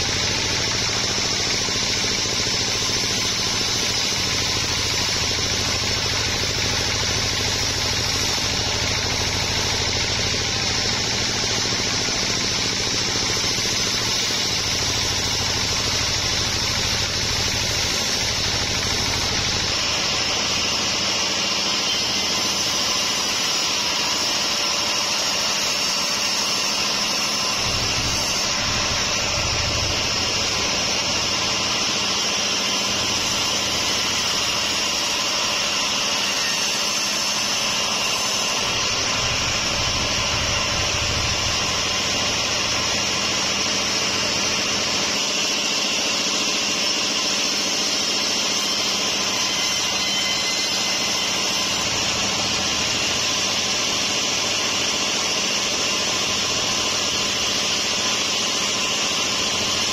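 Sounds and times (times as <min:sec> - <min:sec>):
band saw cutting a log: 0:00.0 - 0:59.9.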